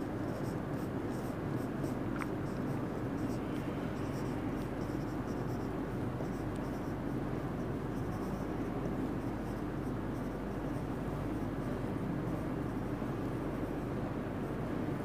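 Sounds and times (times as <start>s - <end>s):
marker pen writing on whiteboard: 0.0s - 13.0s.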